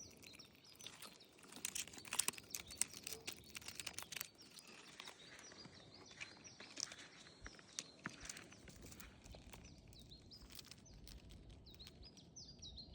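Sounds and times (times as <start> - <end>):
faint bird chirping: 0.0 - 12.9.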